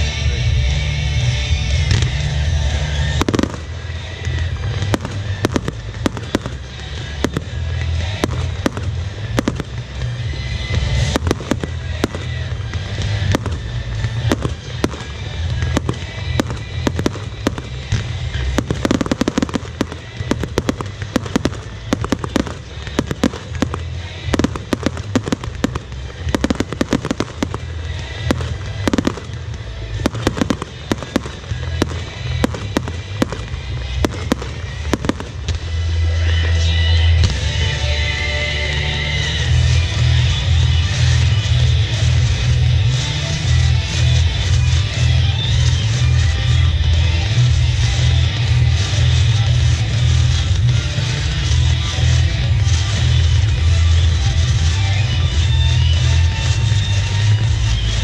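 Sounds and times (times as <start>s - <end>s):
background music: 0.0s - 58.0s
fireworks bangs and crackles: 0.0s - 58.0s.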